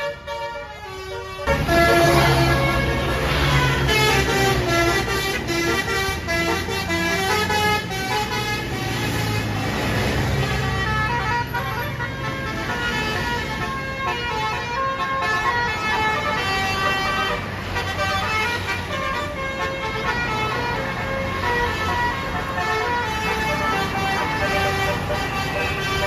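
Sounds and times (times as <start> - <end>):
bus engine running: 0.0 - 26.0
multi-tone air horn melody: 0.0 - 26.0.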